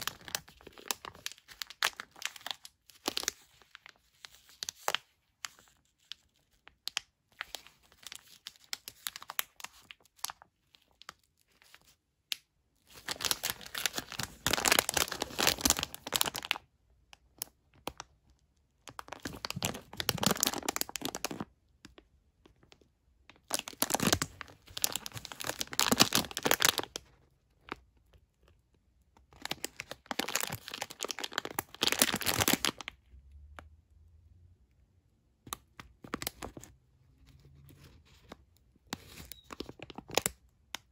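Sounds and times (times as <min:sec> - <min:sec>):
plastic wrapper crinkling: 0:00.0 - 0:33.1, 0:35.4 - 0:40.9.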